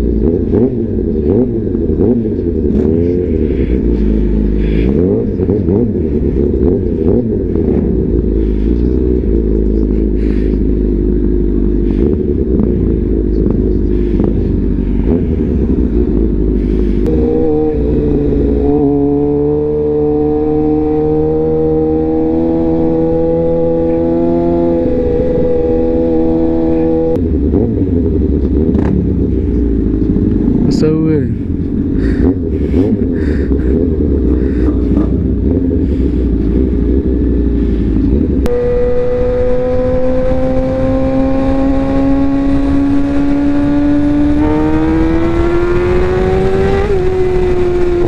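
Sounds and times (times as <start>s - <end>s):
motorcycle engine: 0.0s - 48.0s.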